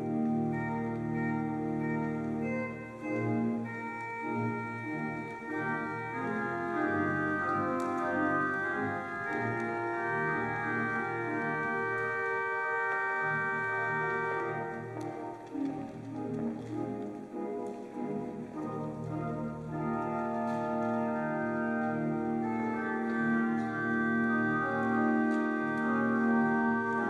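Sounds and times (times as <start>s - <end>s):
pipe organ sustained chords: 0.0s - 27.0s.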